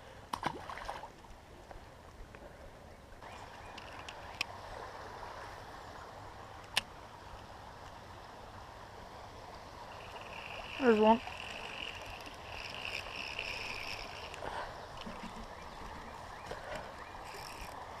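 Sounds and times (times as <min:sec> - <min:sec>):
creek trickling: 0:00.3 - 0:18.0.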